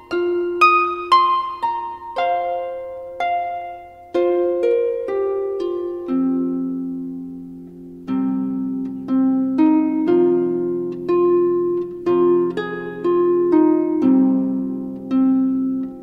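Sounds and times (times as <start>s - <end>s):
plucked string music: 0.0s - 16.0s.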